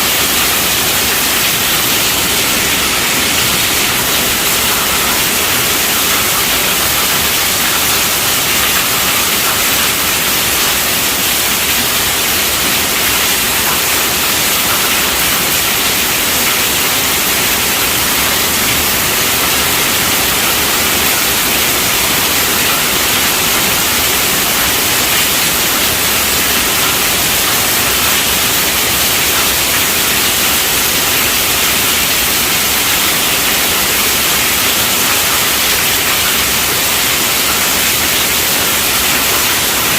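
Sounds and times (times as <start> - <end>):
heavy rain on a tent roof: 0.0 - 39.9.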